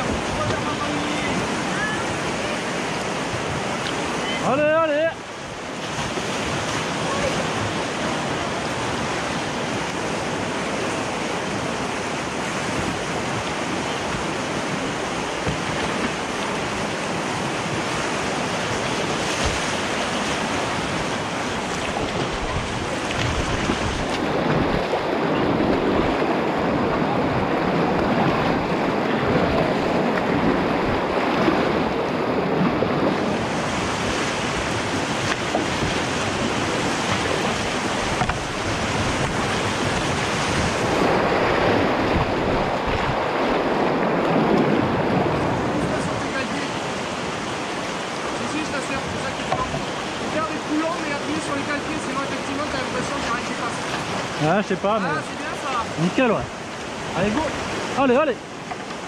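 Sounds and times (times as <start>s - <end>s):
river water rushing through rapid: 0.0s - 59.0s.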